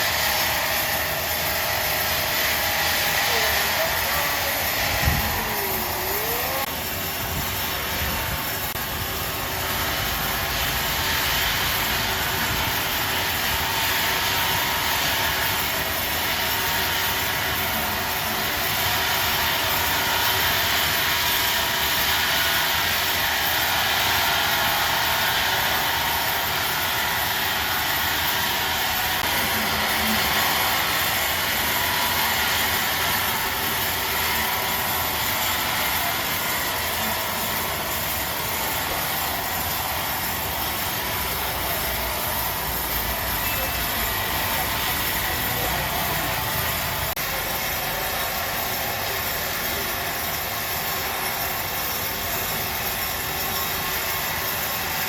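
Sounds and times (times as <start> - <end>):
sawmill saw running: 0.0 - 55.0.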